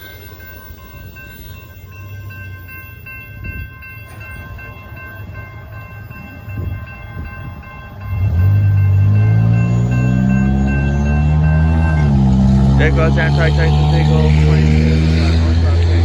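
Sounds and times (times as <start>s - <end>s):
diesel locomotive engine drone: 0.0s - 16.0s
train rumble: 0.0s - 16.0s.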